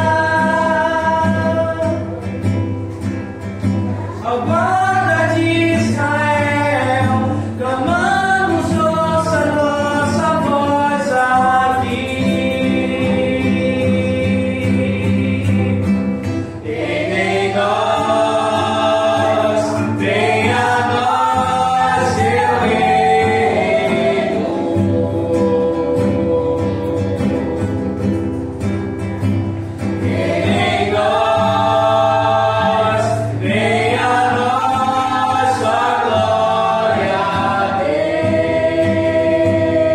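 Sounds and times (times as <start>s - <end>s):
people singing worship song: 0.0s - 3.1s, 3.7s - 39.9s
acoustic guitar: 0.0s - 39.9s.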